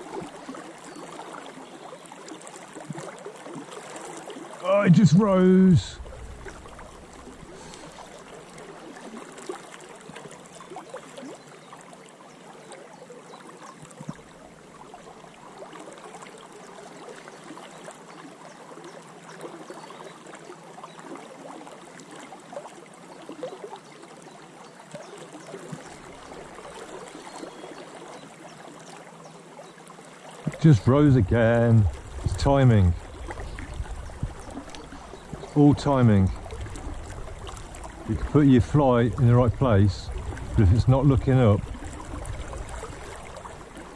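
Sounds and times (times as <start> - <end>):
river water flowing and lapping: 0.0 - 43.9.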